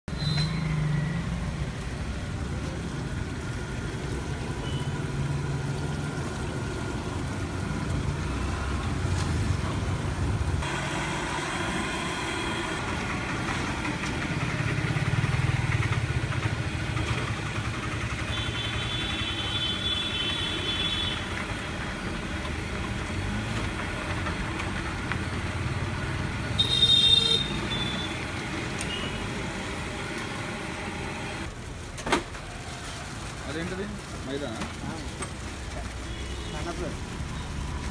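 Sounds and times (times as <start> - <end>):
street traffic: 0.0 - 37.9.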